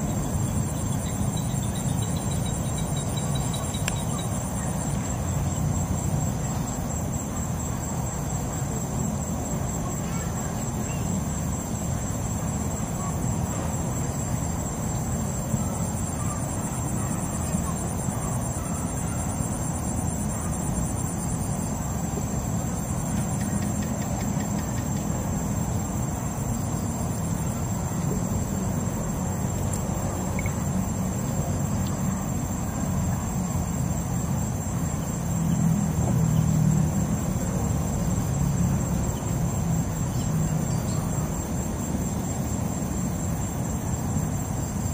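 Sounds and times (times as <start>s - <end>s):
crickets trilling: 0.0s - 44.9s
higher insect trill: 0.0s - 44.9s.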